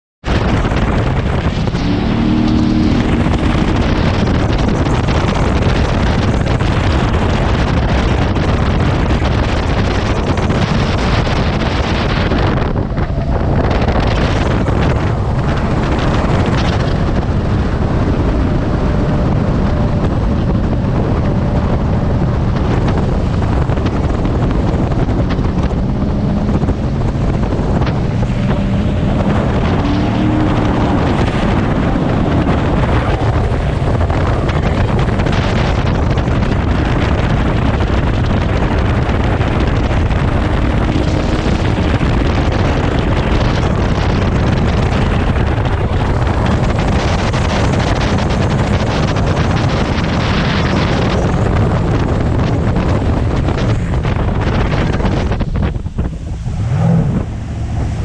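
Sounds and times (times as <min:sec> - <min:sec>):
boat engine: 0:00.2 - 0:58.0
rushing water: 0:00.2 - 0:58.0
wind noise on microphone: 0:00.2 - 0:58.0.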